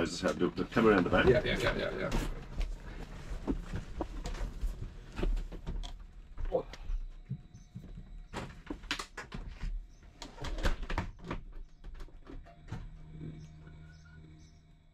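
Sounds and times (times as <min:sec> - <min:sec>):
faint low hum: 0:00.0 - 0:14.9
irregular knocks and clicks: 0:01.0 - 0:13.6.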